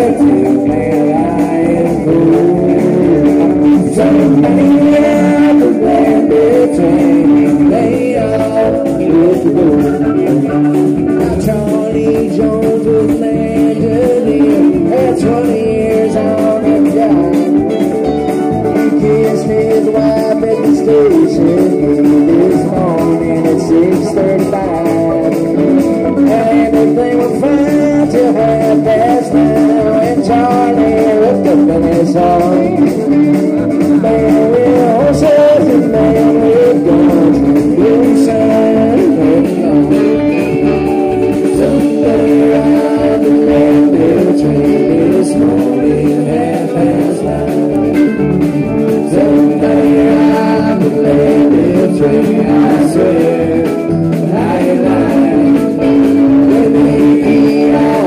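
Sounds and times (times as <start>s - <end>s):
live country rock band: 0.0s - 58.0s.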